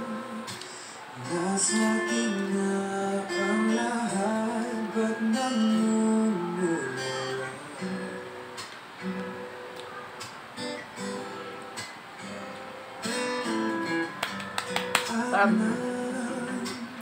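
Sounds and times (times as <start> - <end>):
acoustic guitar plucking and strumming: 0.0 - 17.0.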